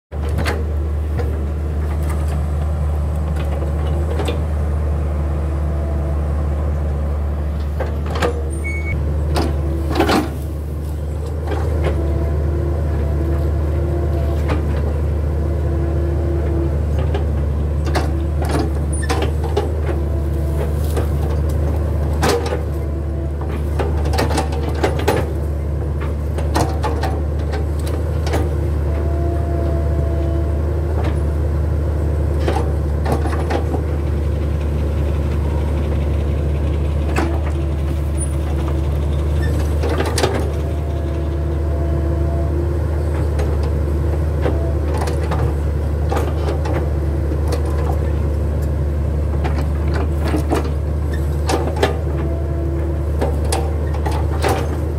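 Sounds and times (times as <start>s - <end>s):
excavator diesel engine droning: 0.1s - 54.9s.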